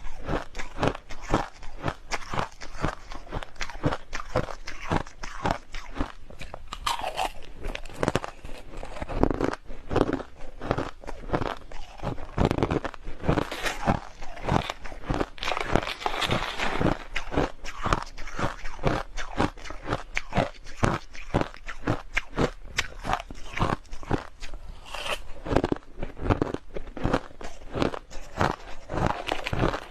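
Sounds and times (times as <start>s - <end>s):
person crunching crushed ice: 0.0s - 29.9s.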